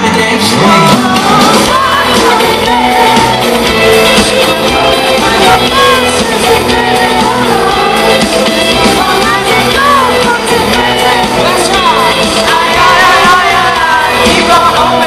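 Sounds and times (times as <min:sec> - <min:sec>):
lead singer singing: 0:00.0 - 0:15.0
live pop band playing: 0:00.0 - 0:15.0.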